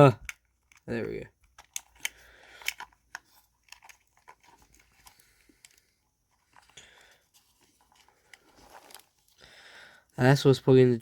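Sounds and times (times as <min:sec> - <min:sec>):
plastic parts clicking and rustling: 0:00.0 - 0:09.4.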